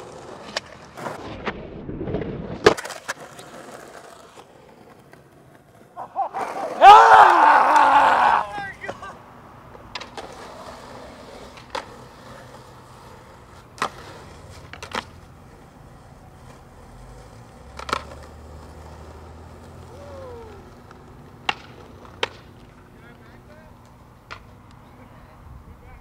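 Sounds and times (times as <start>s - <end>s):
skateboard clacks: 0.0s - 1.2s, 2.6s - 25.1s
skateboard wheels rolling on concrete: 0.0s - 26.0s.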